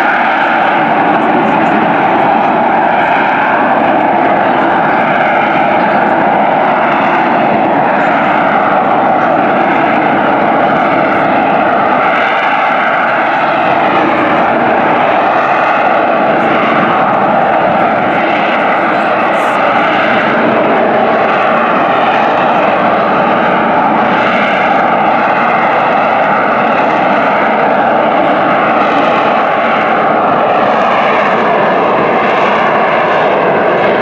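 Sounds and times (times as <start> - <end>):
loud jet engine noise: 0.0 - 34.0.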